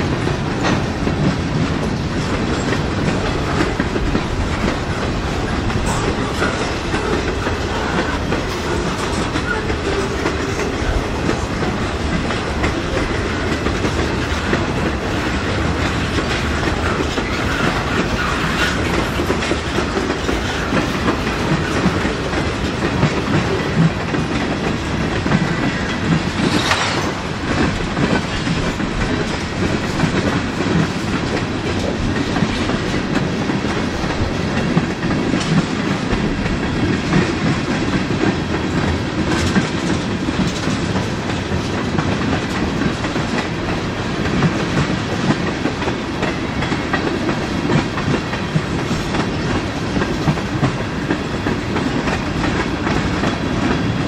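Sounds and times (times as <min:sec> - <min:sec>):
freight train rumbling past: 0:00.0 - 0:54.0
wheels clicking over rail joints: 0:00.0 - 0:54.0.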